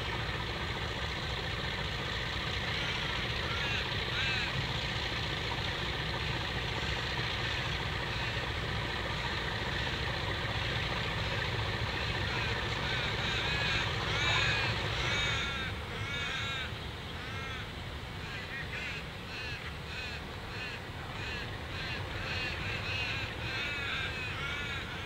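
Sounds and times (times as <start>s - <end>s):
diesel locomotive rumble: 0.0s - 25.0s
crow cawing: 2.5s - 5.6s, 6.4s - 25.0s.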